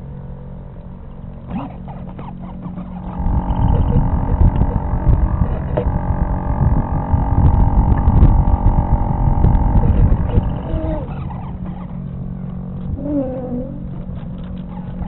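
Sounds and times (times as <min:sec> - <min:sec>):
steady hum: 0:00.0 - 0:15.0
wind buffeting microphone: 0:02.2 - 0:15.0.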